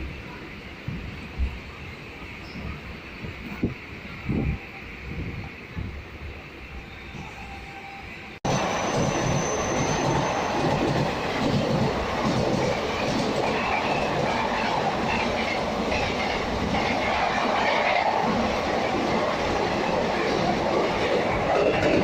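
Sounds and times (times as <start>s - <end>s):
train wheel and rail noise: 0.0s - 22.0s.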